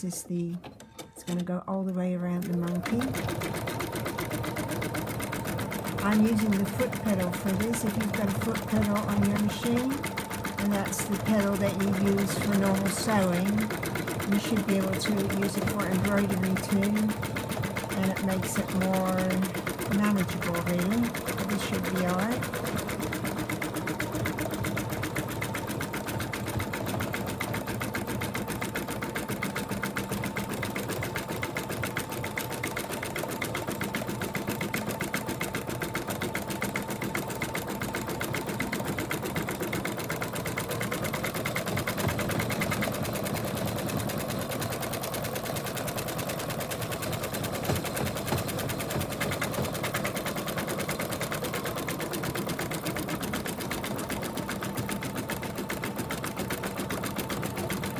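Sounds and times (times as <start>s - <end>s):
sewing machine stitching: 0.0s - 57.9s.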